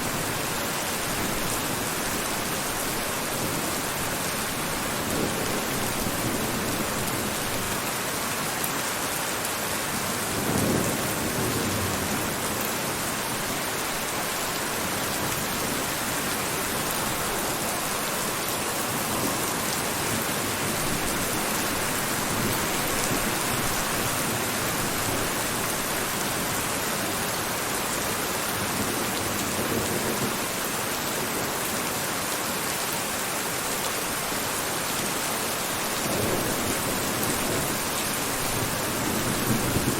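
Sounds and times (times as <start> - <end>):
dense rainfall: 0.0 - 39.9.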